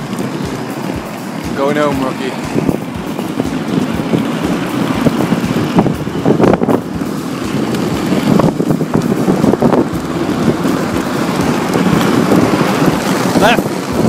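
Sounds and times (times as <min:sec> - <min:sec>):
skate wheels rumbling: 0:00.0 - 0:14.0
wind on microphone: 0:00.0 - 0:14.0.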